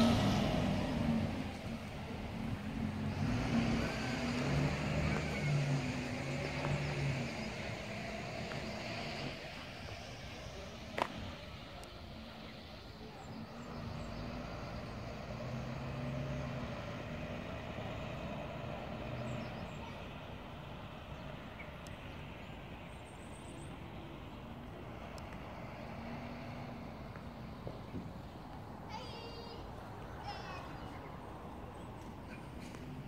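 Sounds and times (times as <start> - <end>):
road traffic rumbling: 0.0 - 33.0
vehicle engine hum: 0.0 - 33.0.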